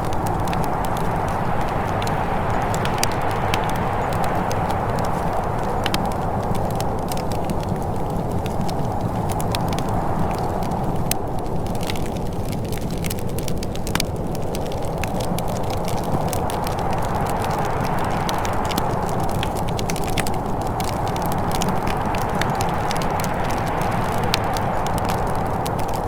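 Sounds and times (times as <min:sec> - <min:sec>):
fireplace crackling: 0:00.0 - 0:26.0.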